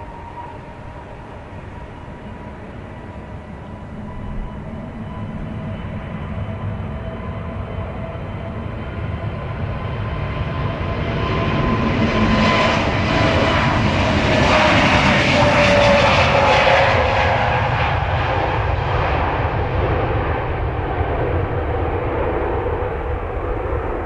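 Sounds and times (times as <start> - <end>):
jet engines passing by: 0.0 - 24.0.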